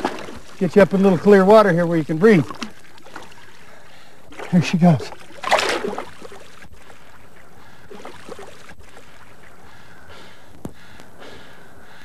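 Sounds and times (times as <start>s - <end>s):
faint splashes: 0.0s - 11.0s.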